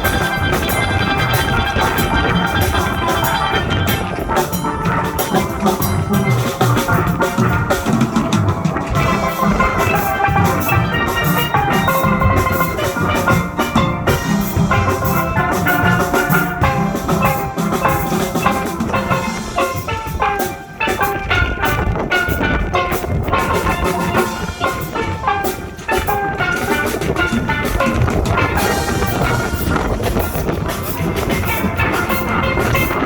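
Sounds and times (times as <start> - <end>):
drums: 0.0 - 33.0
steelpan notes: 0.0 - 33.0.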